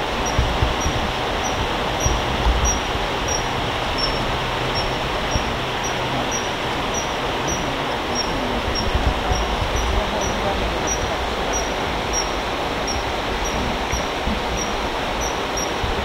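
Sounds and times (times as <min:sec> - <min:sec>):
high bird peep: 0:00.0 - 0:15.8
stream water over rocks: 0:00.0 - 0:16.0.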